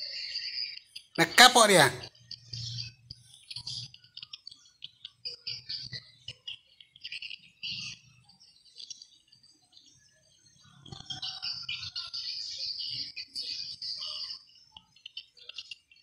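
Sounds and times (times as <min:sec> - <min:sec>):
small birds chirping: 0:00.0 - 0:01.2, 0:02.1 - 0:16.0.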